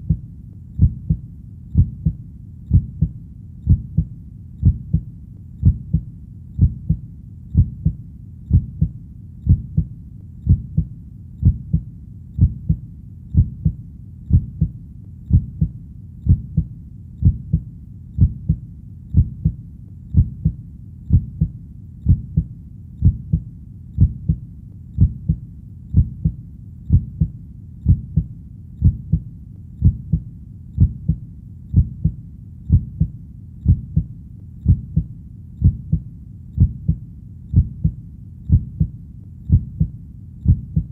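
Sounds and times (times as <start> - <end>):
heartbeat thuds: 0.0 - 24.4, 25.0 - 40.9.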